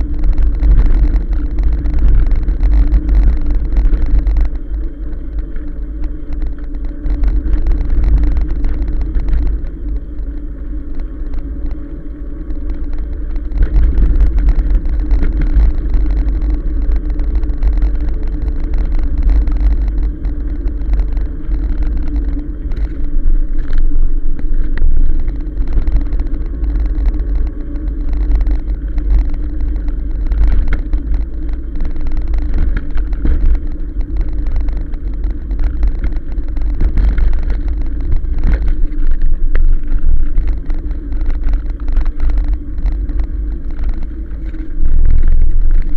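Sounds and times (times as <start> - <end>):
bike rattles and knocks: 0.0 - 45.9
steady hum: 0.0 - 45.9
tyres rumbling on road: 0.0 - 45.9
wind buffeting microphone: 0.0 - 45.9.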